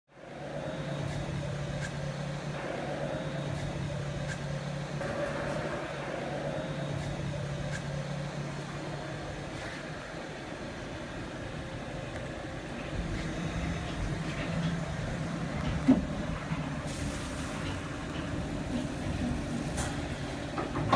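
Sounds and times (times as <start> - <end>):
machining center humming: 0.1 - 20.9.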